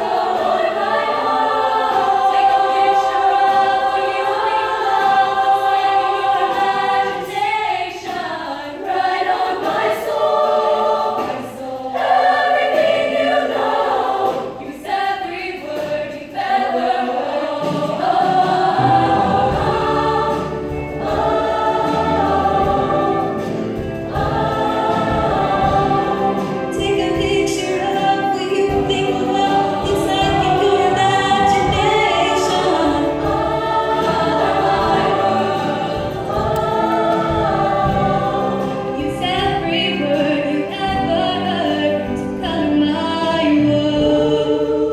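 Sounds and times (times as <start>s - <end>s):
women's choir singing: 0.0s - 44.9s.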